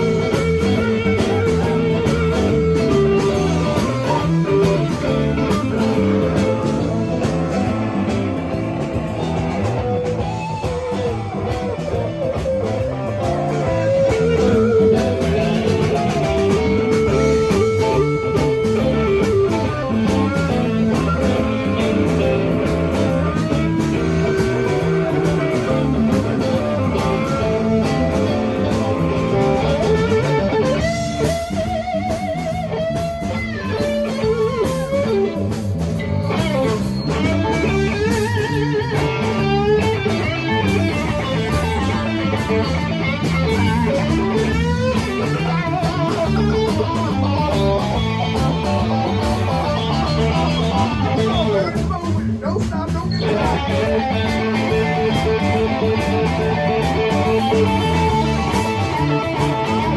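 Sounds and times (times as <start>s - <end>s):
bass guitar: 0.0s - 59.9s
drums: 0.0s - 59.9s
electric guitar lead: 0.0s - 59.9s.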